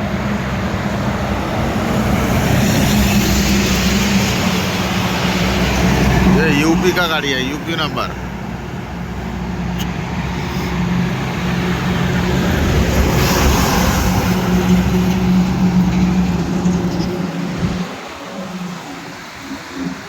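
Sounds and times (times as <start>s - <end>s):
heavy vehicle engine drone: 0.0s - 20.0s
tyre and road noise: 0.0s - 20.0s.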